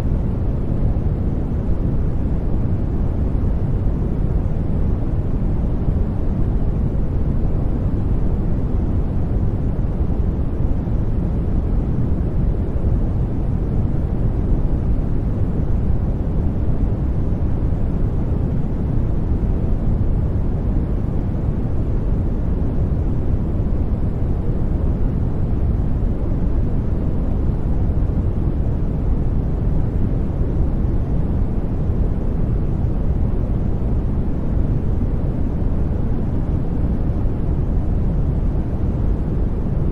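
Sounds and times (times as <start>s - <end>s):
deep hiss and rumble noise: 0.0s - 39.9s.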